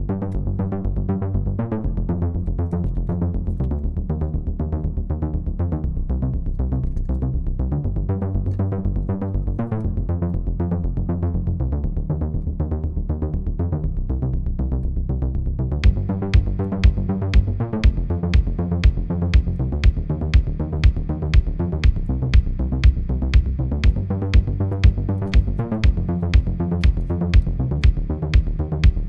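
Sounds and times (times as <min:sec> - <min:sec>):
electronic music with steady beat: 0:00.0 - 0:29.0.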